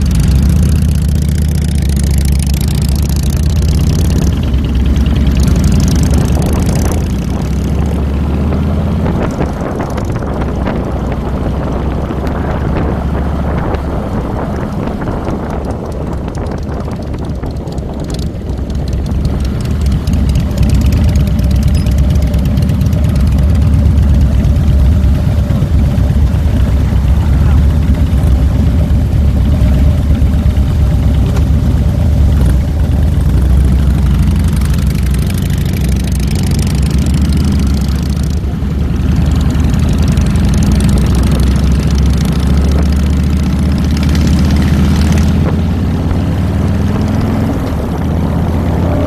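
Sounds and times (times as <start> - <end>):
motorcycle engine while riding: 0.0 - 49.0.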